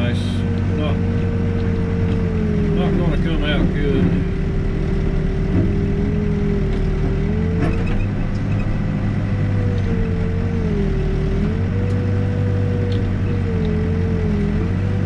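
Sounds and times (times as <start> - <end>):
diesel engine running under load: 0.0 - 15.0
hydraulic whine: 0.6 - 15.0.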